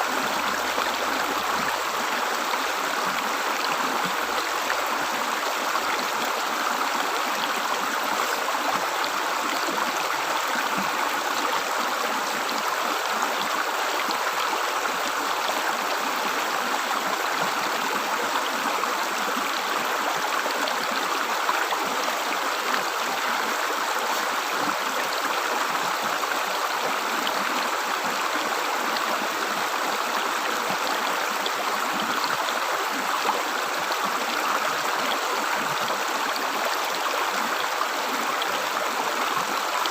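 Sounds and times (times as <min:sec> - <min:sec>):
river water gurgling: 0:00.0 - 0:39.9.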